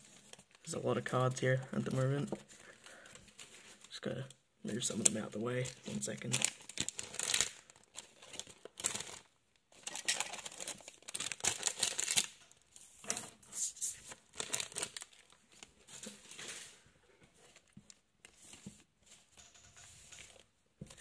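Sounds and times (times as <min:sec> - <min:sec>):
cards and plastic packaging rustling: 0:00.0 - 0:21.0.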